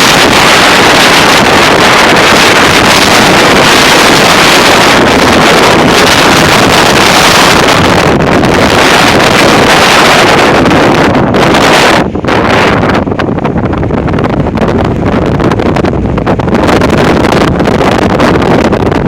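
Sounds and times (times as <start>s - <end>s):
strong wind on microphone: 0.0s - 19.0s.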